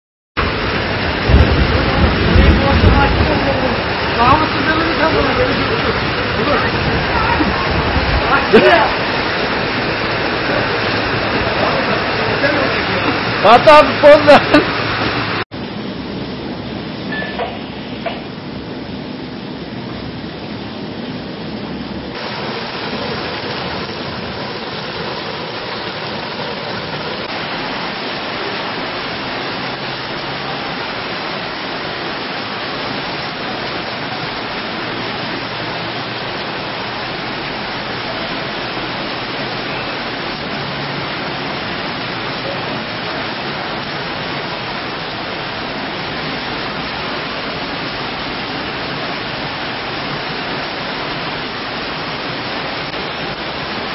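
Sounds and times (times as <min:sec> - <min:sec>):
heavy rain and rushing water: 0:00.4 - 0:53.9.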